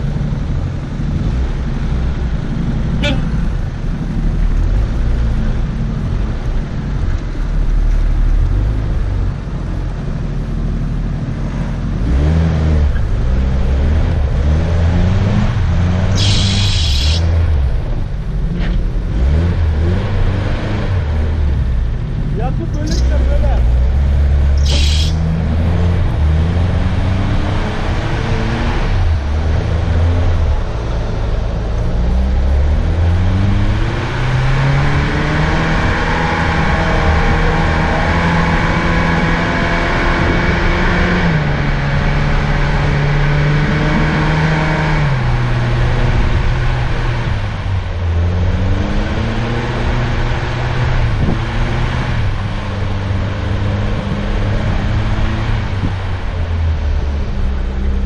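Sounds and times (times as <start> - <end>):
vehicle engine from inside cabin: 0.0 - 58.0.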